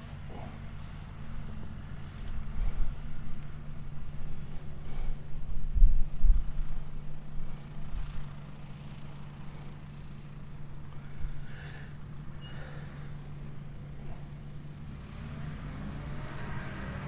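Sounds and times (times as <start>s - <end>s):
distant farm machinery engine hum: 0.0s - 17.0s.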